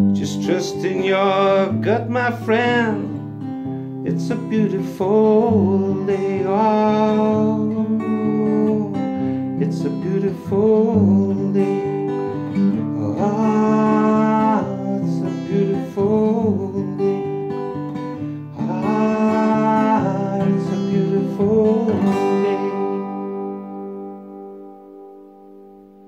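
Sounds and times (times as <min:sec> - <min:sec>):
person singing: 0:00.0 - 0:03.4, 0:04.0 - 0:24.2
strummed acoustic guitar: 0:00.0 - 0:26.0.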